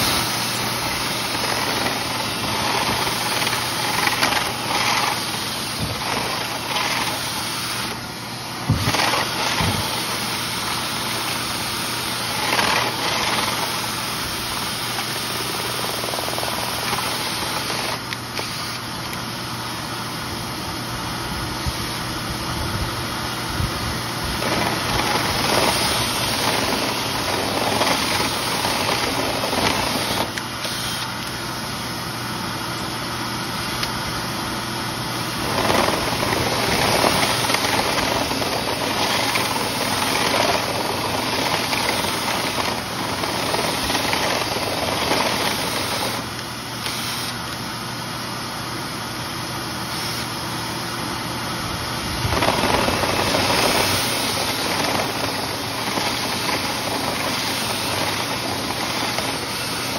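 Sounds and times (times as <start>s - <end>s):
cordless drill spinning brush rod: 0.0s - 19.3s, 23.9s - 31.6s, 35.1s - 47.7s, 49.8s - 50.5s, 52.0s - 59.9s
motor drone: 0.0s - 59.9s.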